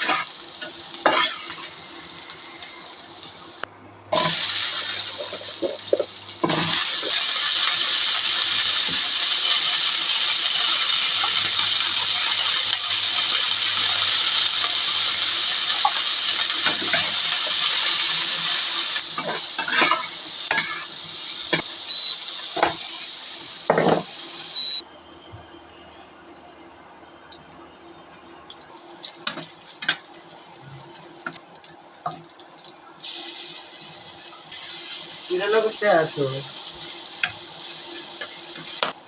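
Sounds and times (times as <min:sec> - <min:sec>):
food sizzling in a frying pan: 0:00.0 - 0:24.8, 0:28.6 - 0:39.0.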